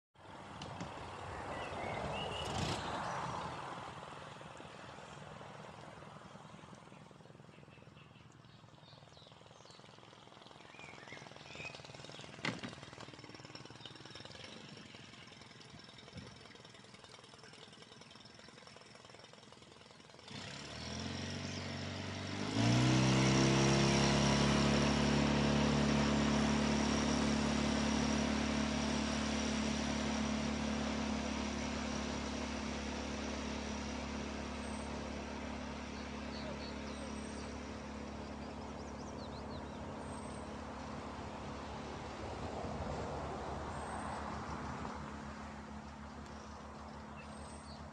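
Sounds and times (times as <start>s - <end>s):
outboard motor drone: 0.2s - 47.9s.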